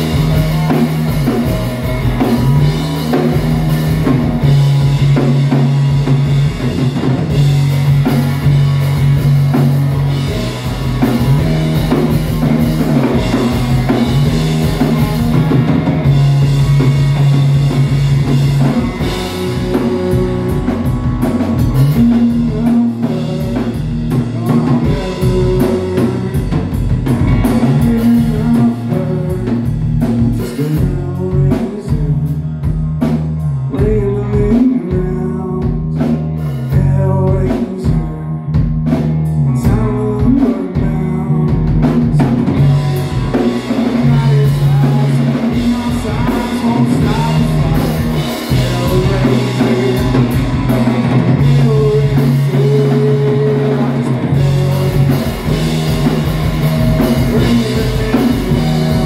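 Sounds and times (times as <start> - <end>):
rock music: 0.0 - 59.0.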